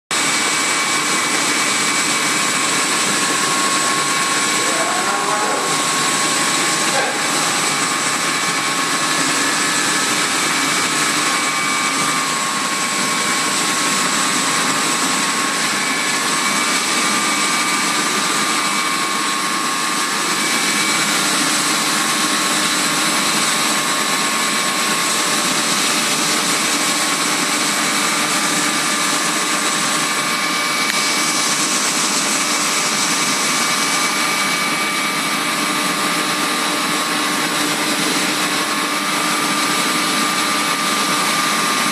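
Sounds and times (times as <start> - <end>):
pumps droning and whining: 0.1 - 41.9.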